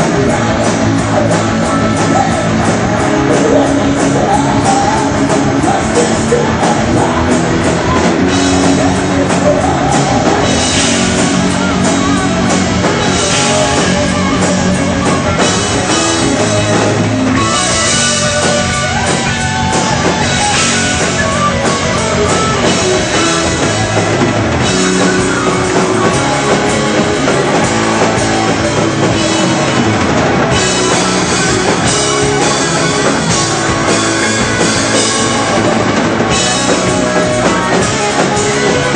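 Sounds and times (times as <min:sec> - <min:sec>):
drum kit: 0:00.0 - 0:38.9
electric guitars: 0:00.0 - 0:38.9.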